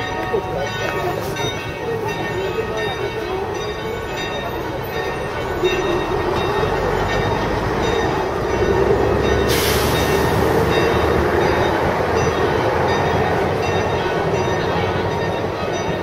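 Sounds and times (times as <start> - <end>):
church bells ringing: 0.0 - 16.0
street noise: 0.0 - 16.0.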